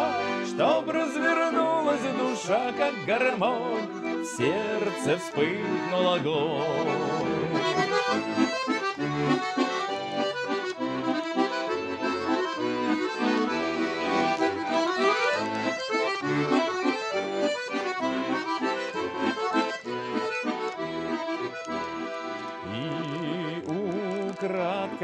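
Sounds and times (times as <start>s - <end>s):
button accordion folk melody: 0.0s - 25.0s.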